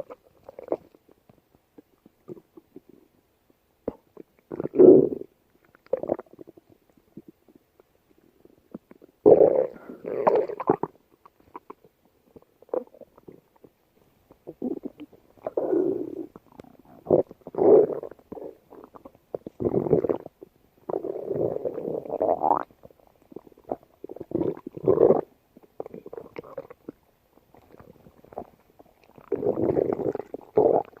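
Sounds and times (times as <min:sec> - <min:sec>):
stomach growling: 0:00.0 - 0:03.2, 0:03.8 - 0:31.0.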